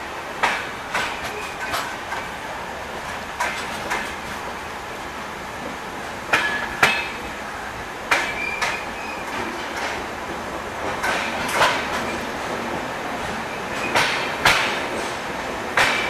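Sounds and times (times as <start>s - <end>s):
train rolling rumble: 0.0s - 16.0s
wheels clicking over rail joints: 0.4s - 4.6s, 5.6s - 7.3s, 8.0s - 16.0s.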